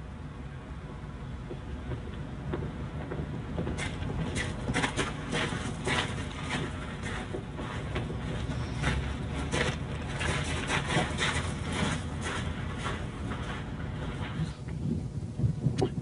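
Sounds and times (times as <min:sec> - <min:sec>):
steady low rumble: 0:00.0 - 0:16.0
clacking steps on hard ground: 0:01.4 - 0:14.8.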